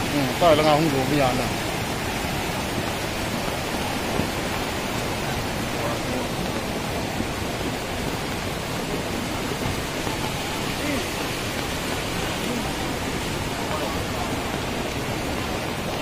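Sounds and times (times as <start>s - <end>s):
floodwater rushing: 0.0s - 16.0s
rain falling: 0.0s - 16.0s.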